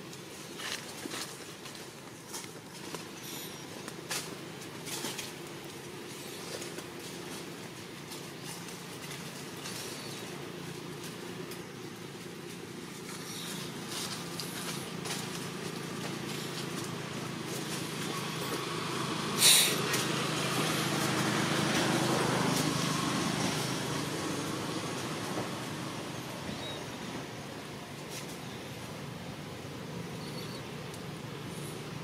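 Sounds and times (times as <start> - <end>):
motor engine humming: 0.0 - 32.0.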